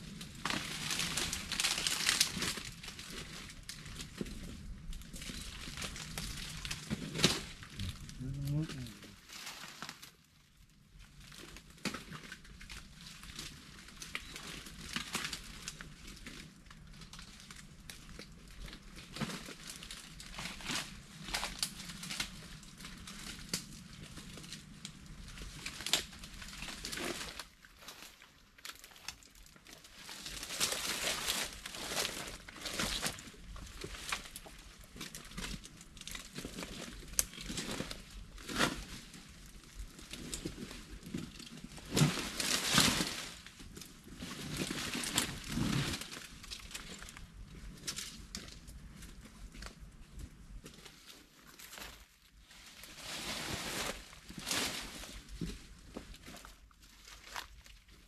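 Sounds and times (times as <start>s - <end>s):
leaves and twigs rustling: 0.0s - 10.3s, 11.0s - 58.0s.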